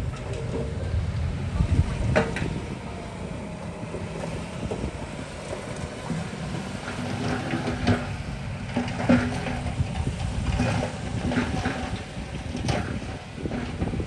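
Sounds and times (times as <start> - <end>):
heavy machinery diesel rumble: 0.0 - 14.0.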